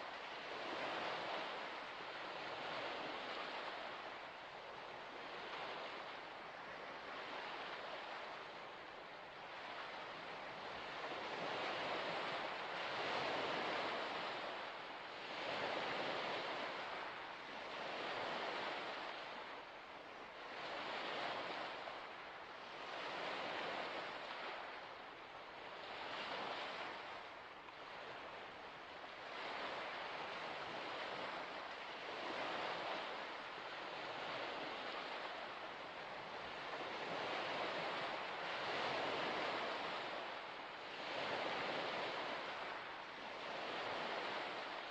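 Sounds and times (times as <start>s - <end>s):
small waves washing onto shore: 0.0s - 44.9s.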